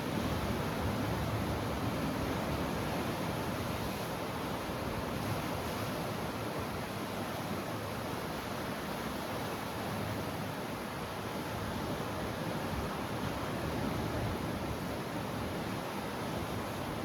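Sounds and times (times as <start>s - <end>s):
sea surf washing on shore: 0.0s - 17.0s.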